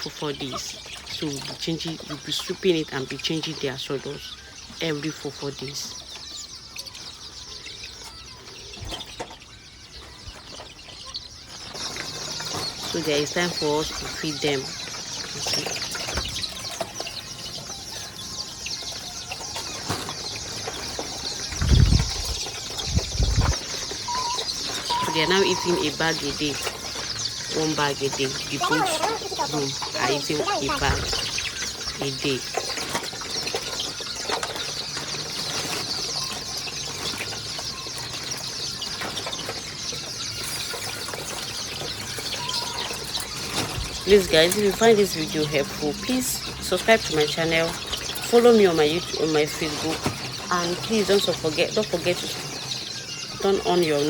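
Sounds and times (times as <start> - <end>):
chicks cheeping: 0.0 - 54.0.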